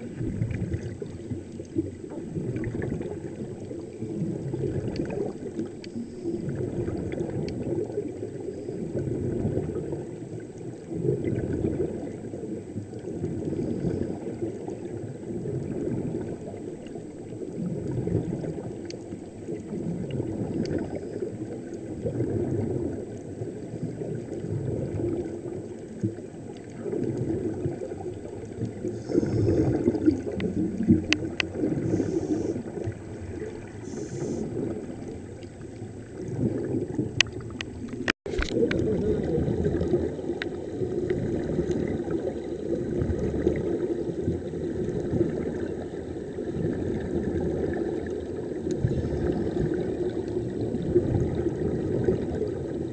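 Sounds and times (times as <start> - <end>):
air bubbles streaming: 0.0 - 52.9
muffled underwater rumbling: 0.0 - 52.9.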